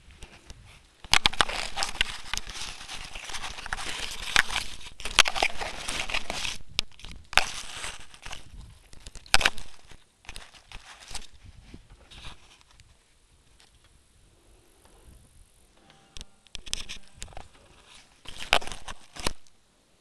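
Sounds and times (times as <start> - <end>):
dry grass rustling and crackling: 0.0 - 14.0, 16.1 - 19.6.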